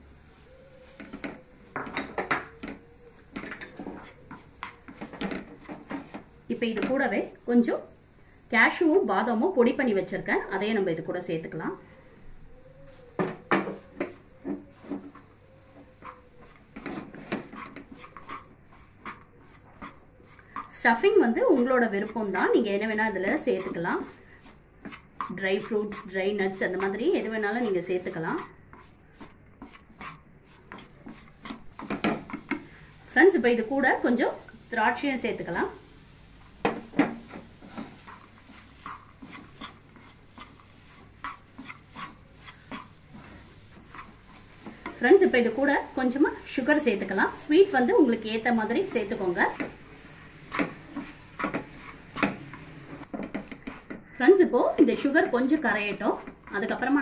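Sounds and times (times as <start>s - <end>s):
spatula scraping a pan: 0.2s - 7.4s, 12.6s - 57.0s.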